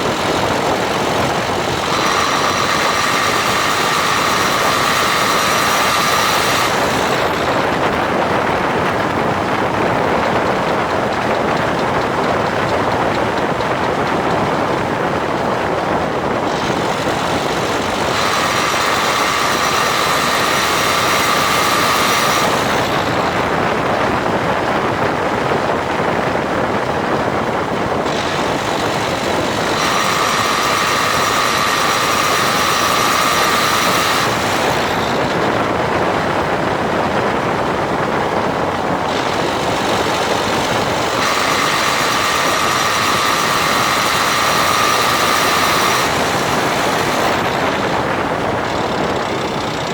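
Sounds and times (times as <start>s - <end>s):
high-pitched grinding noise: 0.0s - 25.6s, 26.6s - 49.9s.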